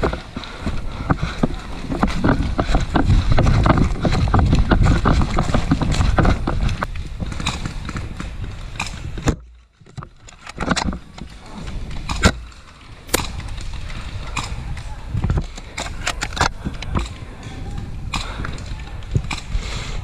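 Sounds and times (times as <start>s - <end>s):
low rumble on microphone: 0.0s - 20.0s
rustling and clicks of movement: 0.0s - 20.0s.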